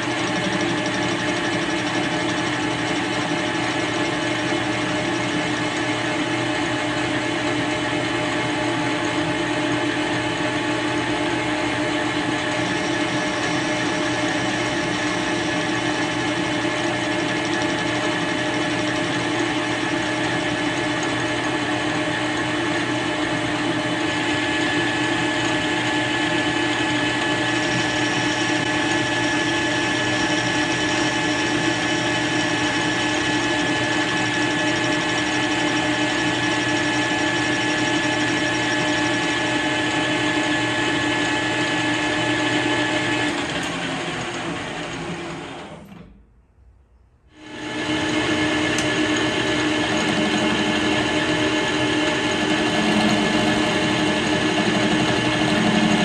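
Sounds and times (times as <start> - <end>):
metal lathe gear whine: 0.0 - 46.0, 47.4 - 56.0.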